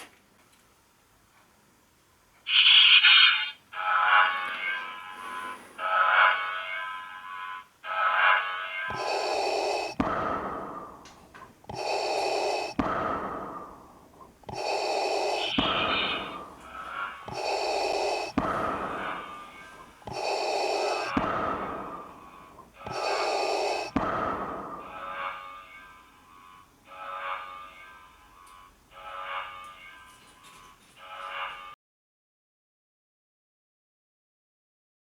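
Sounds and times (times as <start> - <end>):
mechanical respirator breathing: 2.5 - 6.6, 7.8 - 31.7.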